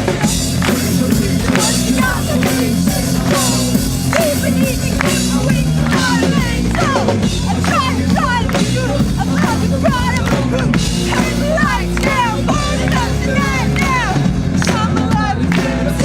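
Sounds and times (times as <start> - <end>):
heavy drum beat: 0.0 - 16.0
live rock band: 0.0 - 16.0
person singing: 0.0 - 16.0.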